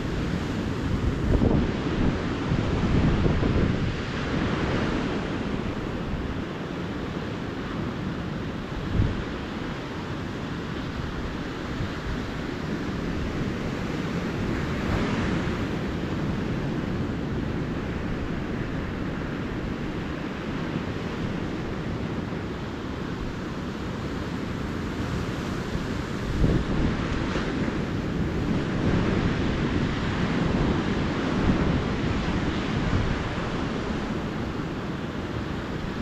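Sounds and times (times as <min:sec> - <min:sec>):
ocean surf washing onto beach: 0:00.0 - 0:36.0
wind rumbling on microphone: 0:00.0 - 0:36.0.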